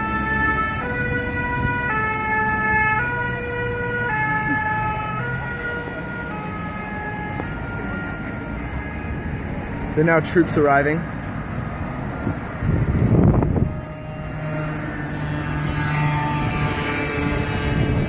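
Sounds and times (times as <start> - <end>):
ambulance two-tone siren: 0.0 - 18.0
street traffic rumble: 0.0 - 18.0.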